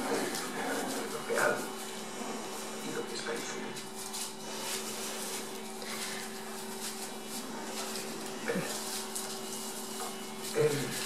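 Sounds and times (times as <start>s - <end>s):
puppies scuffling: 0.0s - 11.0s
shredded paper rustling: 0.0s - 11.0s
steady low hum: 0.0s - 11.0s.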